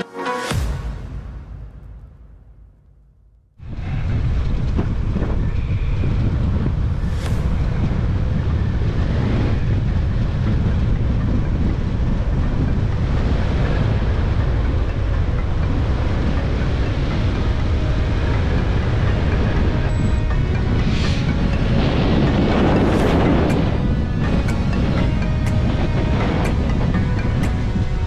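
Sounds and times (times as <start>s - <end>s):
wind rushing over microphone: 3.6s - 28.0s.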